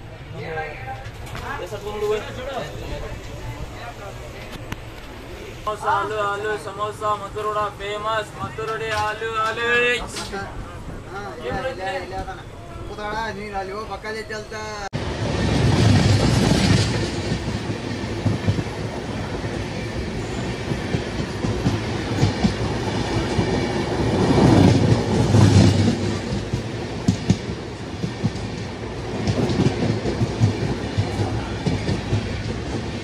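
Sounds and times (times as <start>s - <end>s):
train wheels rumbling on rails: 0.0s - 13.7s, 14.9s - 33.0s.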